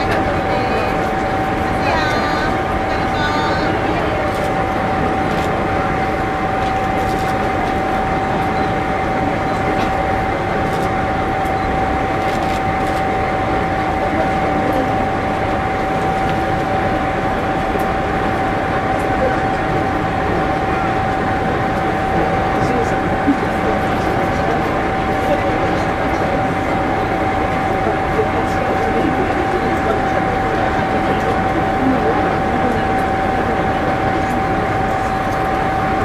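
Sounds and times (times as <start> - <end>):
diesel railcar engine idling: 0.0 - 36.0
faint crowd chatter: 0.0 - 36.0.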